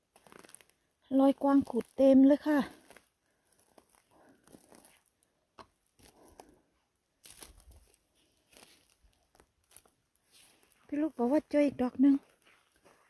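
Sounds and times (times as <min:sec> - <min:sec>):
rustles of forest-floor litter: 0:00.1 - 0:05.2, 0:07.2 - 0:13.0.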